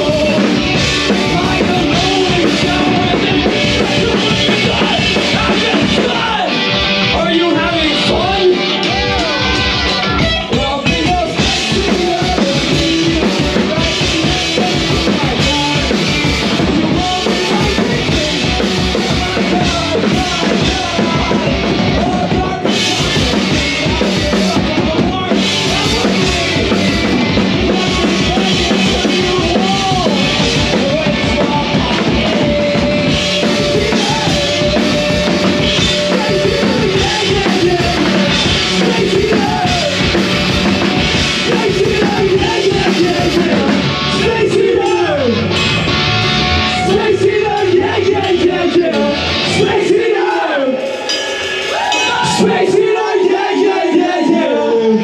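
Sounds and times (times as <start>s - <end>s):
bass guitar: 0.0s - 55.0s
driving drum kit: 0.0s - 55.0s
electric guitars: 0.0s - 55.0s.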